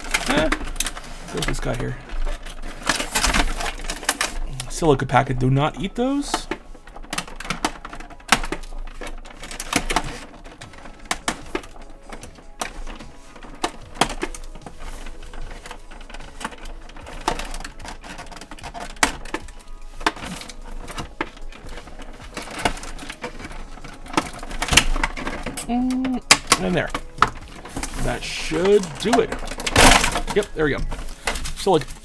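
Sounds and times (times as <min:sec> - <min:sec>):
plastic bag crinkling: 0:00.0 - 0:32.0
knife cutting plastic: 0:06.1 - 0:32.0.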